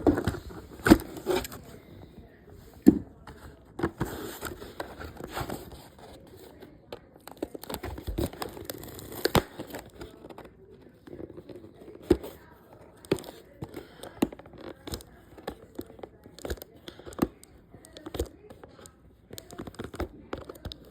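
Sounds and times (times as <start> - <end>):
crinkling plastic and cardboard: 0.0 - 20.9.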